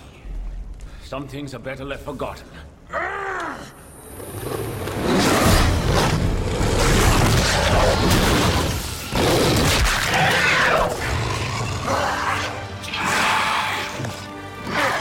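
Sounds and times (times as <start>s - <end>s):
film music: 0.0s - 15.0s.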